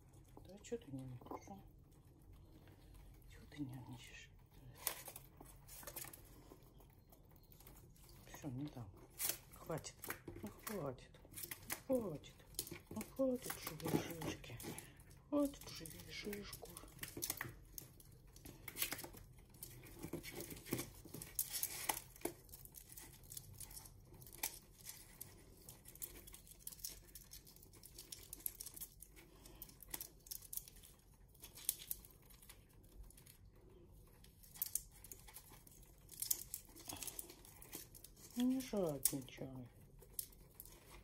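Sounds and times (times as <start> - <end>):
squirrel gnawing pine cone: 0.0 - 41.0.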